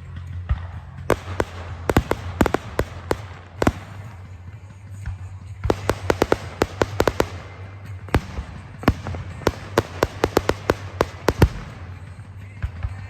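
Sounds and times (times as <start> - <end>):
fireworks popping and cracking: 0.0 - 13.0
steady low hum: 0.0 - 13.0.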